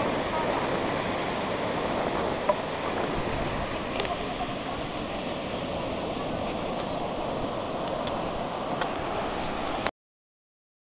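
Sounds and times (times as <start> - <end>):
ocean surf breaking: 0.0 - 9.9.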